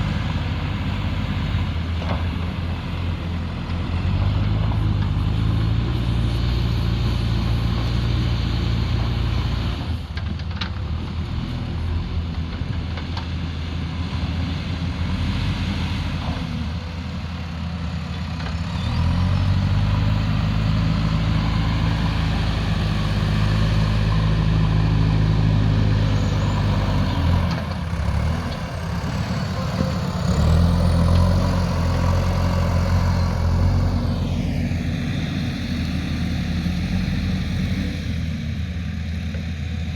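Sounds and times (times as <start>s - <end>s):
earthmoving machine diesel engine: 0.0s - 39.9s.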